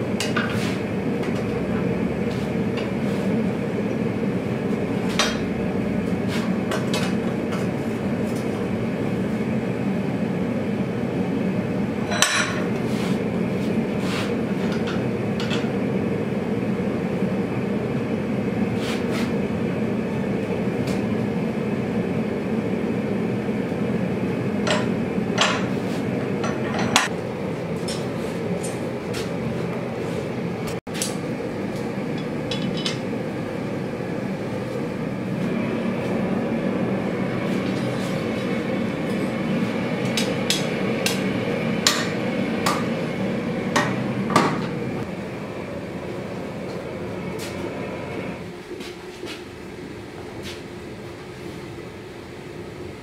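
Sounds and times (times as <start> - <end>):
gas burner rushing: 0.0 - 49.4.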